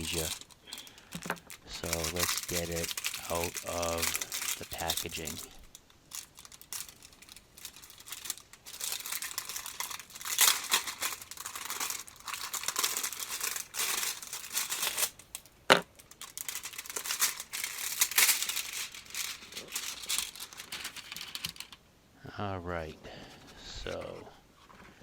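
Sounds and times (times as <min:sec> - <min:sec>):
packaging crinkling and tearing: 0:00.0 - 0:21.8.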